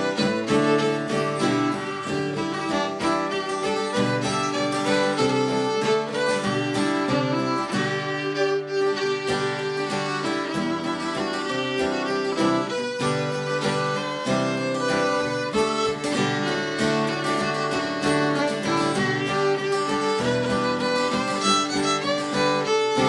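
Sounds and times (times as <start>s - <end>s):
fiddle playing folk tune: 0.0s - 23.0s
guitar accompaniment: 0.0s - 23.0s.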